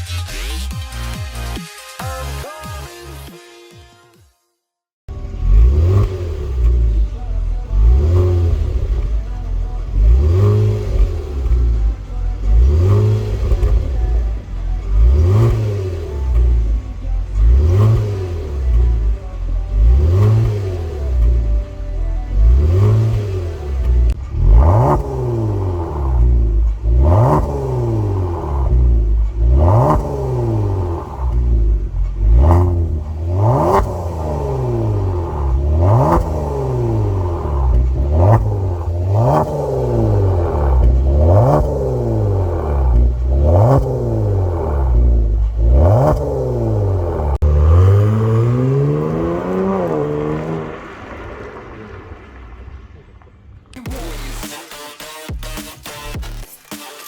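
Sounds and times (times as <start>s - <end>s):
car engine throttle blips: 5.1s - 56.5s.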